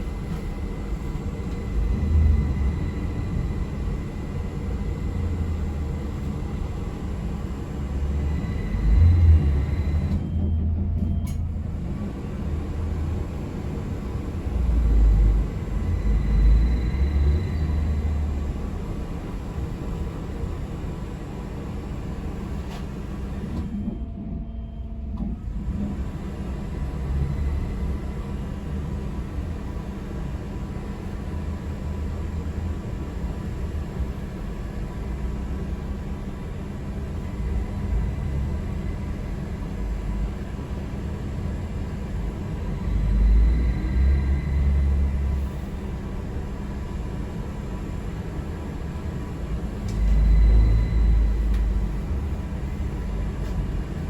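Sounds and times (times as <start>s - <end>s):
vehicle rumble from inside: 0.0s - 54.0s.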